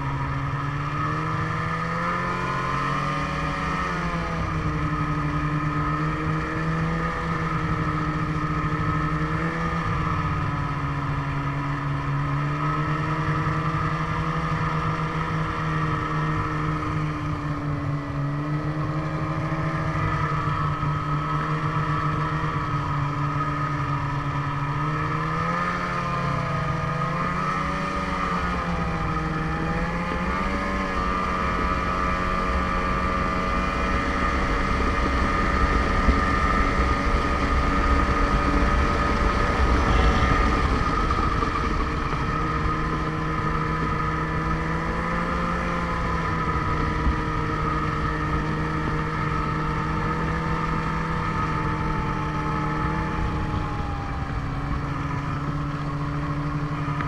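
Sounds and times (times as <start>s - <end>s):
snowmobile engine running: 0.0s - 57.0s
wind rumbling on microphone: 0.0s - 57.0s.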